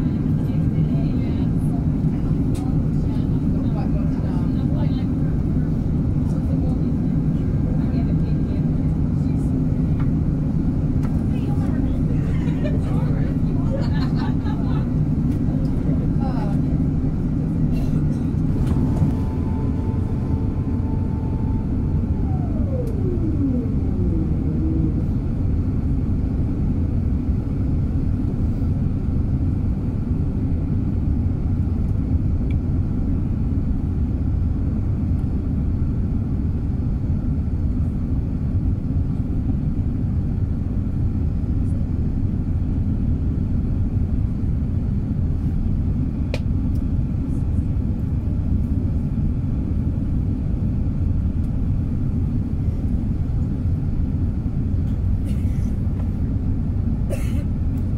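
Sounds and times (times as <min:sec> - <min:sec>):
jet engine whine falling in pitch: 0:00.0 - 0:57.9
low aircraft cabin rumble: 0:00.0 - 0:57.9.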